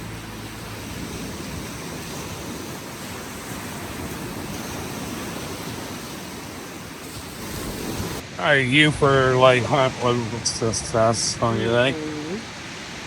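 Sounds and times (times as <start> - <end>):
lake waves washing on beach: 0.0 - 13.0.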